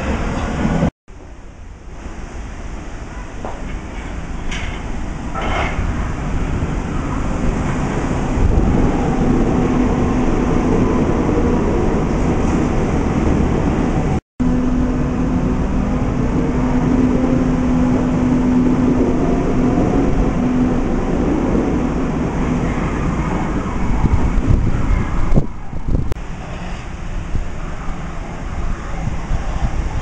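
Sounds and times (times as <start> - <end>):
low hum from train: 0.0 - 30.0
train rumbling on rails: 0.0 - 30.0.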